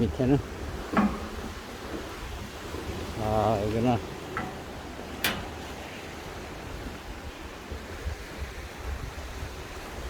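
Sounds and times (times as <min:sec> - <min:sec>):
sea surf: 0:00.0 - 0:10.0
wind on microphone: 0:00.0 - 0:10.0.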